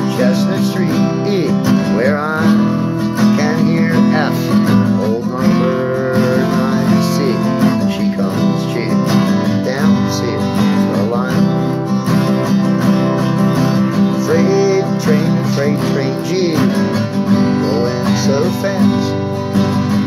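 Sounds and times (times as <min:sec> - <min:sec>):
acoustic guitar strumming: 0:00.0 - 0:20.0
person singing: 0:00.0 - 0:20.0.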